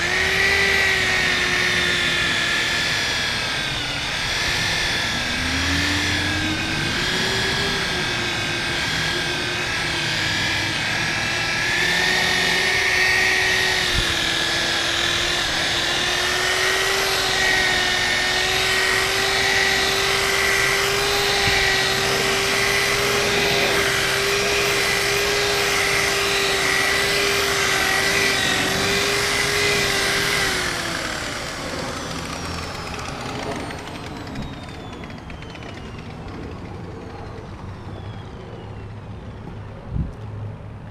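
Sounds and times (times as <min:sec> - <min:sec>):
electric polisher motor whine: 0:00.0 - 0:40.3.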